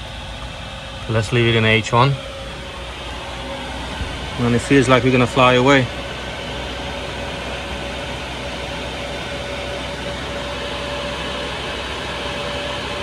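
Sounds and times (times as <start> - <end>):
heater fan blowing air: 0.0 - 13.0
heater whine: 0.0 - 13.0.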